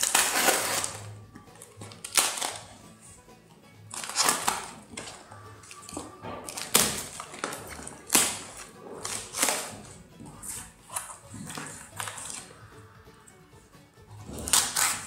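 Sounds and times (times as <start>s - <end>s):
packing tape ripping: 0.0s - 2.8s, 3.9s - 12.5s, 14.3s - 15.0s.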